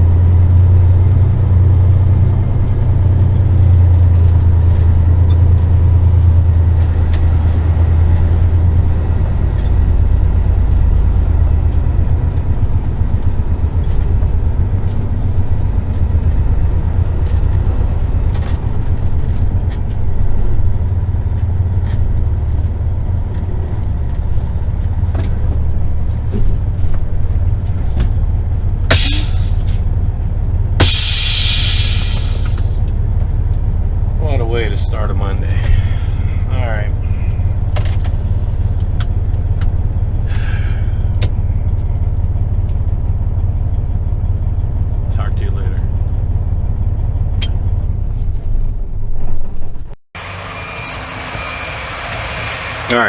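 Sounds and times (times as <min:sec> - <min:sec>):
truck diesel engine rumbling: 0:00.0 - 0:53.0.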